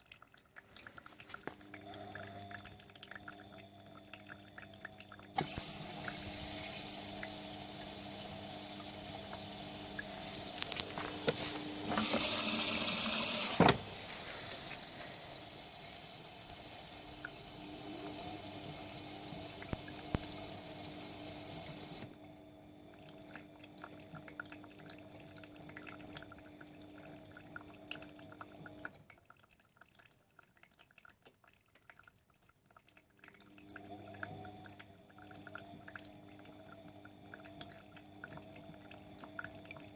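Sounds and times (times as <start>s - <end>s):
faint drips and trickling: 0.0s - 39.9s
washing machine water inflow: 0.0s - 39.9s.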